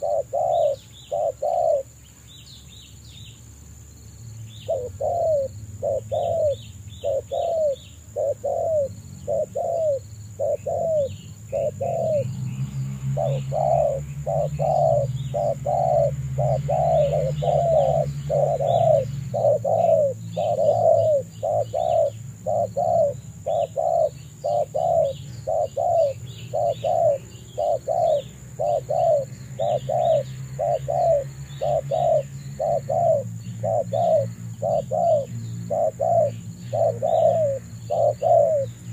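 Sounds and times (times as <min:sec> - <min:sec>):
dove cooing: 0:00.0 - 0:02.0, 0:04.6 - 0:38.9
small birds chirping: 0:00.0 - 0:38.9.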